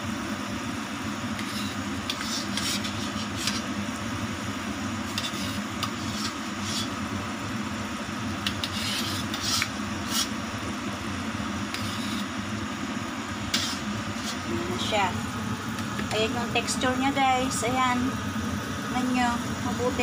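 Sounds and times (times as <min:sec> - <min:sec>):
water boiling in a pot: 0:00.0 - 0:20.0.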